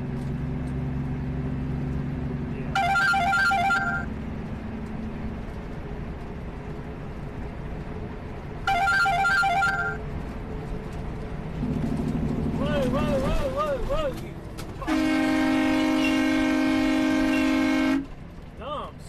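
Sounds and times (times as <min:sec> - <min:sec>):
truck cab drone: 0:00.0 - 0:19.0.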